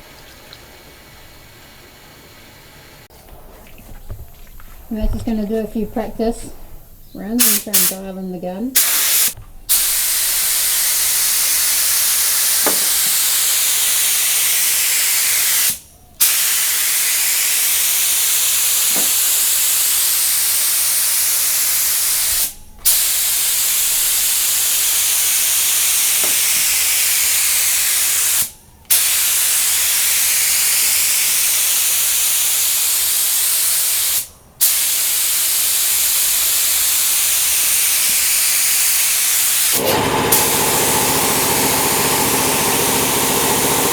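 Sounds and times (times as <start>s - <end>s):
paint spray gun hissing: 7.4s - 8.0s, 8.8s - 43.9s.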